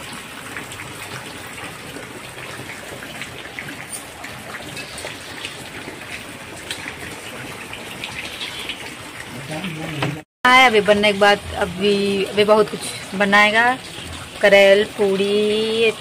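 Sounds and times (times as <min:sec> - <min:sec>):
heavy rain falling: 0:00.0 - 0:16.0
water dripping and splashing: 0:00.0 - 0:16.0.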